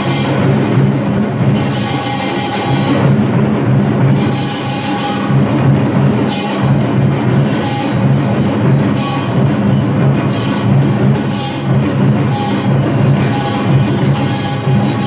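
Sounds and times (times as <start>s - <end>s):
drums beating driving rhythm: 0.0s - 15.0s
metal gong crashes: 0.0s - 15.0s.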